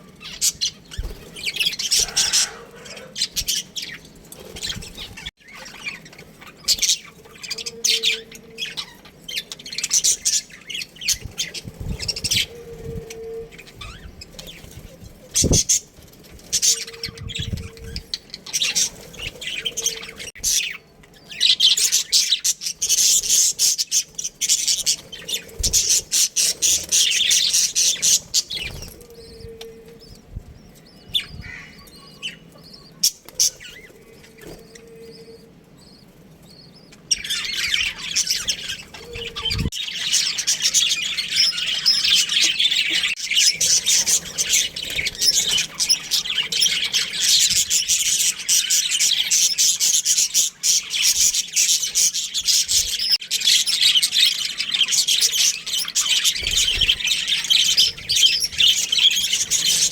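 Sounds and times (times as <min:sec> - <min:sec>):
budgerigars chirping and chattering: 0:00.1 - 0:59.9.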